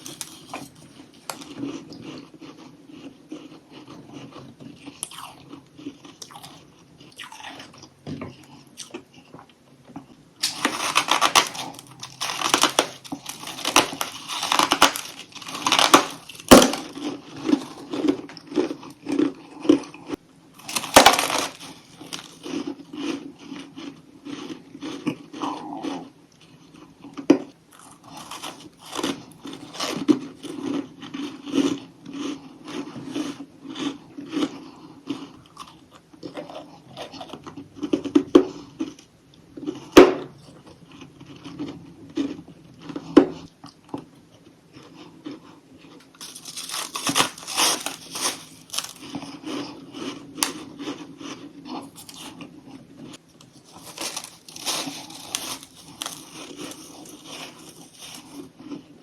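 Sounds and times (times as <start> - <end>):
crunching frost with teeth: 0.0 - 9.4, 10.4 - 39.0, 44.8 - 59.0.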